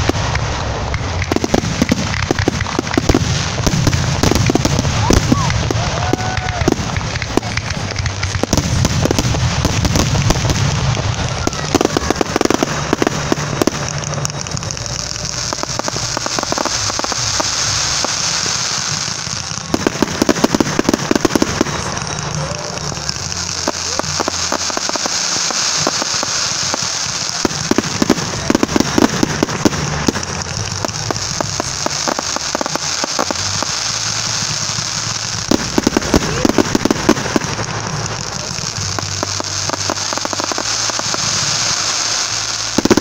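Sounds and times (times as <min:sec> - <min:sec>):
fireworks popping and crackling: 0:00.0 - 0:43.0.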